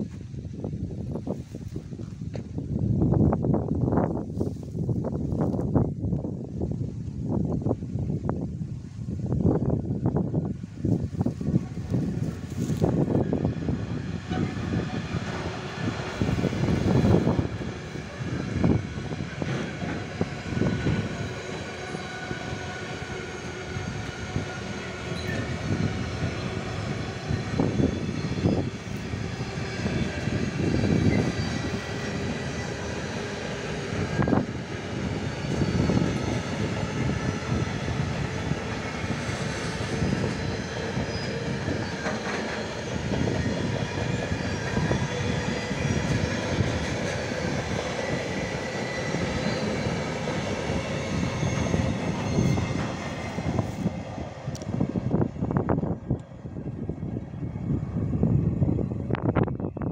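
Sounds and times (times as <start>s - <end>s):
steel wheels rumbling on rail: 0.0s - 59.9s.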